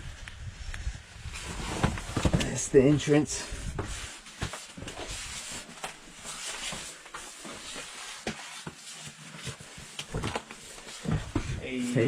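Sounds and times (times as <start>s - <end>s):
scuffs and knocks of climbing: 0.1s - 12.0s.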